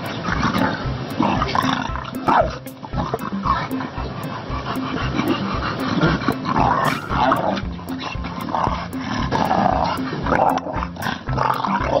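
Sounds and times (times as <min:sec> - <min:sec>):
animals growling: 0:00.0 - 0:12.0
background music with steady beat: 0:00.0 - 0:12.0.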